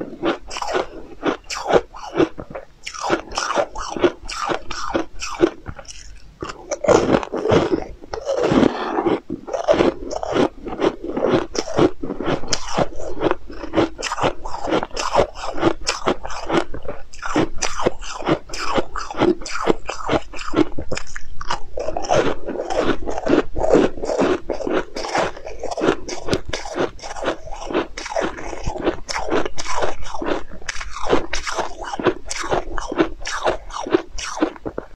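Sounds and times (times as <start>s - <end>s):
person chewing crisp food: 0.0s - 34.9s.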